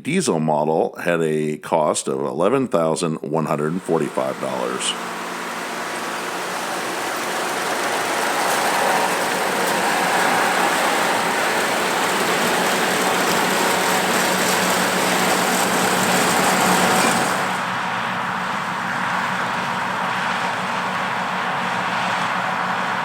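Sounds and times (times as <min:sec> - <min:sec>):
tractor engine running under load: 0:03.6 - 0:23.0.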